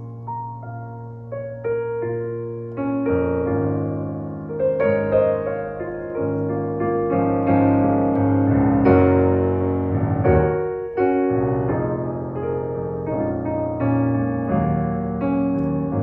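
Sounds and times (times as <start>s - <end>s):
electric piano chords: 0.0s - 16.0s.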